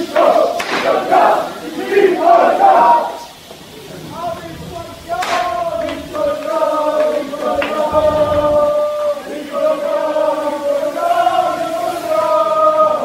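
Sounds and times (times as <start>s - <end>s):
crowd chanting: 0.0s - 13.0s.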